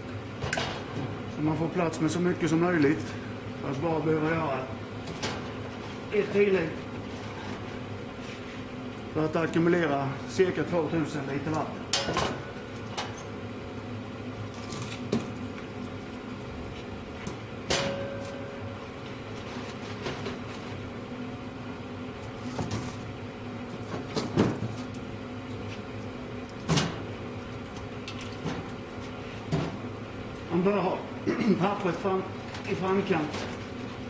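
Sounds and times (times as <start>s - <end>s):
draft fan humming: 0.0s - 34.0s.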